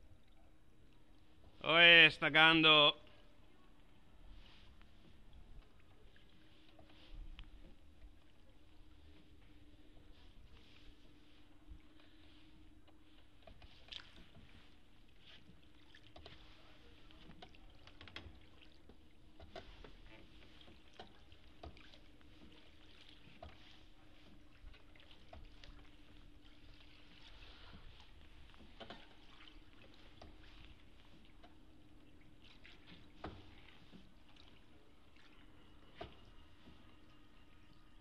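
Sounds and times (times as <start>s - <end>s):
oar dipping and splashing water: 0.0s - 38.0s
faint steady hum: 3.0s - 38.0s.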